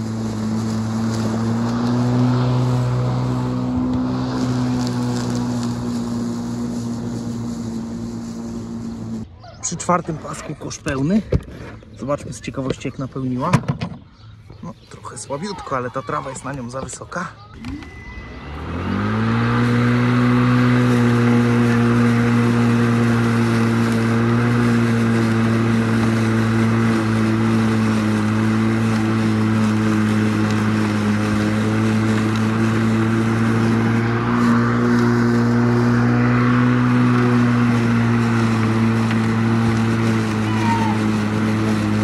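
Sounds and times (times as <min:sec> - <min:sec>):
electric lawn mower humming: 0:00.0 - 0:09.4, 0:17.5 - 0:42.0.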